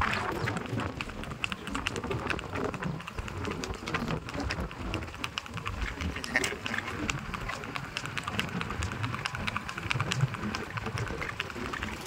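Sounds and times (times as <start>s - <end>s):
hooves clip-clopping on asphalt: 0.0s - 12.0s.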